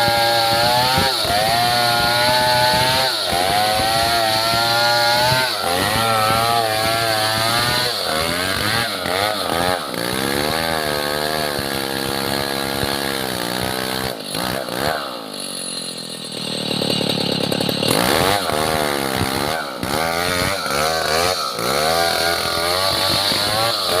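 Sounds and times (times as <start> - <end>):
petrol saw engine cutting wood: 0.0 - 24.0.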